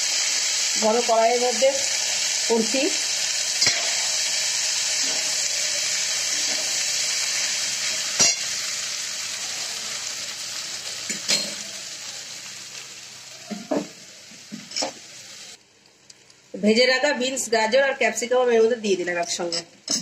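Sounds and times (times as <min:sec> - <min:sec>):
rice sizzling in hot oil: 0:00.0 - 0:17.4.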